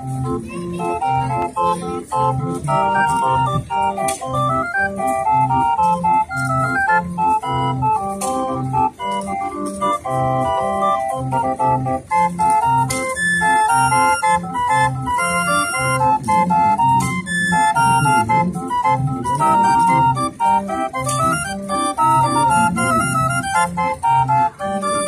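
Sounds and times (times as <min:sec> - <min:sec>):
hand-cranked street organ: 0:00.0 - 0:25.0.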